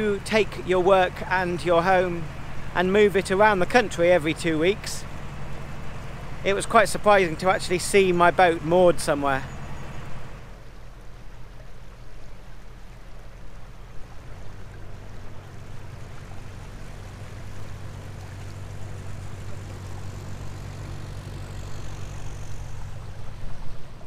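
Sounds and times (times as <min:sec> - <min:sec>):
diesel engine humming: 0:00.0 - 0:24.0
water rushing along hull: 0:00.0 - 0:24.0.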